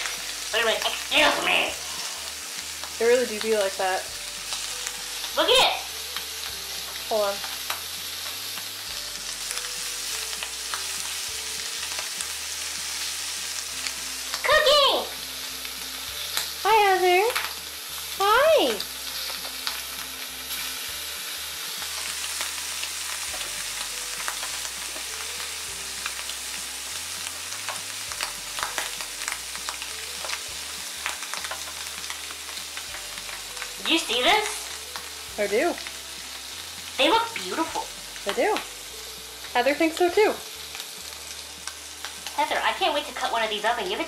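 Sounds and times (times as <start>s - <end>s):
shrimp sizzling in a pan: 0.0s - 44.0s.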